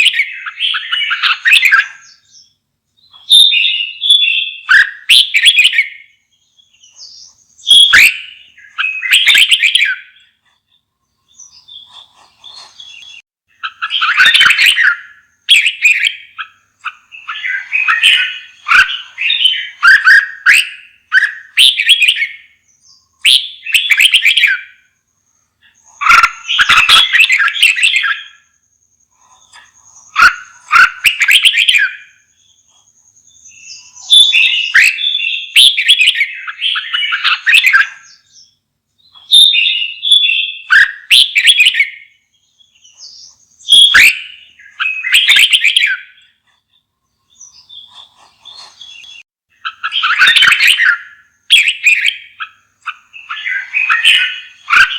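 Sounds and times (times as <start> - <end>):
bulbul singing: 0.0 - 54.9.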